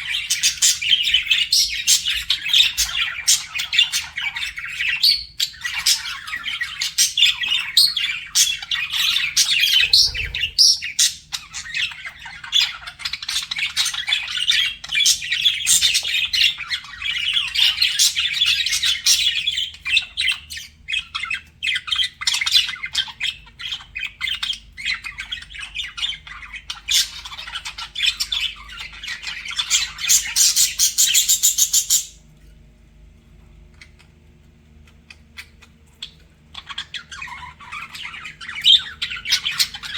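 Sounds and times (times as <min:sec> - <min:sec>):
budgerigars chattering and warbling: 0:00.0 - 0:32.2, 0:35.1 - 0:39.9.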